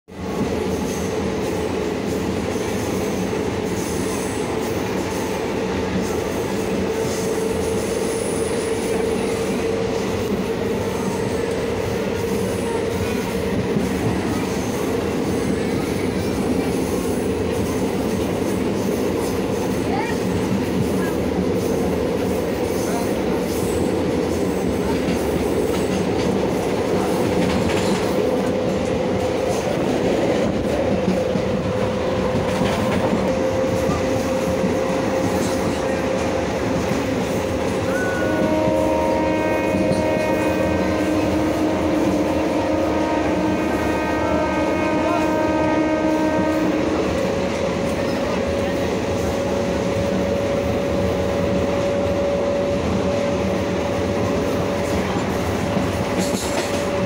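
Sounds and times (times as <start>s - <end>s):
train wheels rumbling on rails: 0.1s - 57.0s.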